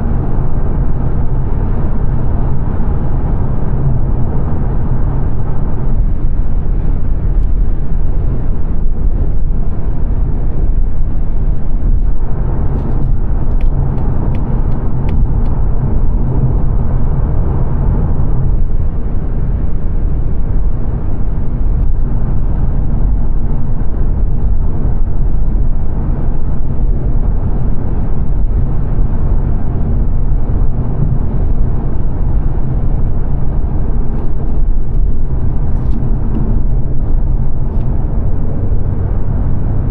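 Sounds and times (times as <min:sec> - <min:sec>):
car engine hum: 0:00.0 - 0:39.9
road and tyre rumble: 0:00.0 - 0:39.9.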